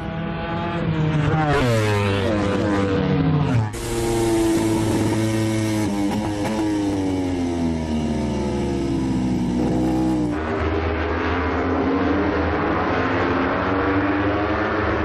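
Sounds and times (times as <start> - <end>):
racing motorcycle engines high revs: 0.0 - 15.0.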